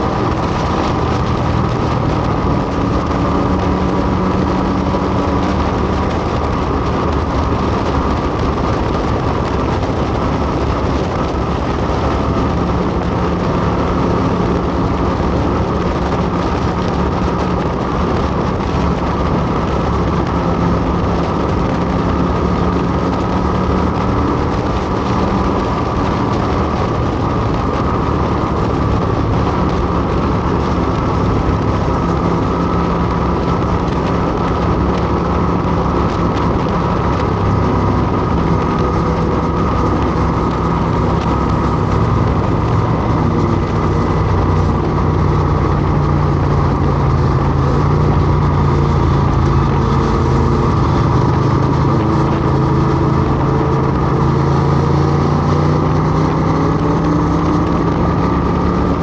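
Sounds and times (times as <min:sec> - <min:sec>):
motorcycle engine running steadily: 0:00.0 - 0:59.0.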